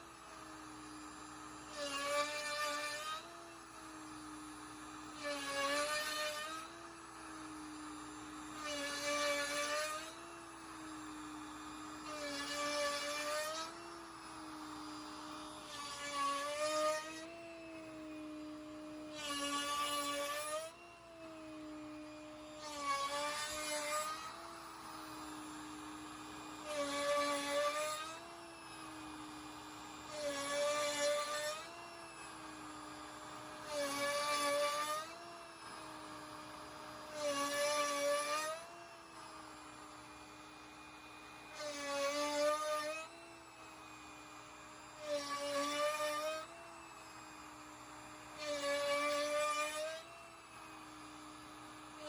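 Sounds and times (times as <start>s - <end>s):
router bit cutting wood: 0.0s - 52.0s
router spindle whine: 0.0s - 52.0s.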